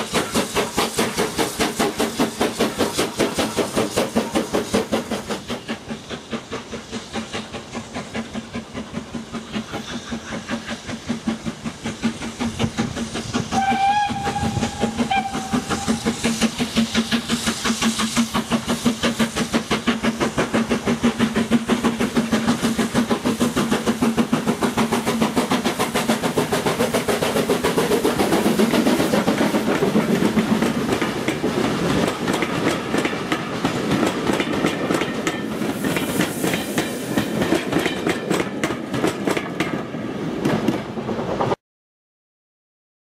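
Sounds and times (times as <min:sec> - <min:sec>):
steam locomotive exhaust beat: 0:00.0 - 0:41.6
wheels clicking over rail joints: 0:00.0 - 0:41.6.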